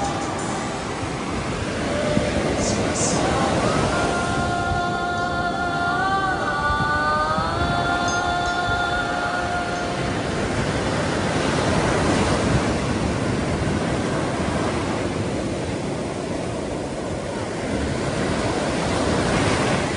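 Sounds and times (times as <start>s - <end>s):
surf washing on sandy shore: 0.0s - 19.9s
wind rumbling on microphone: 0.0s - 19.9s.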